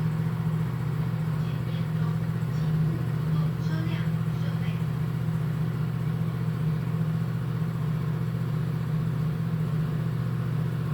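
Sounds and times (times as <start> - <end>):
low machine hum: 0.0 - 10.9.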